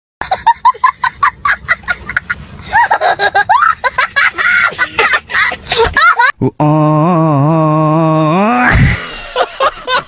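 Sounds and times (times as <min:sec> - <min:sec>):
comic laughter sound effect: 0:00.2 - 0:10.0.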